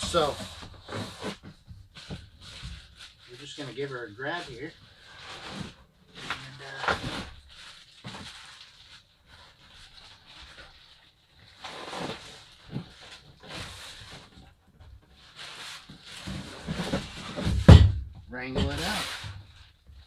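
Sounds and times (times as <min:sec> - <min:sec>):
cardboard rustling and scraping: 0:00.0 - 0:20.0.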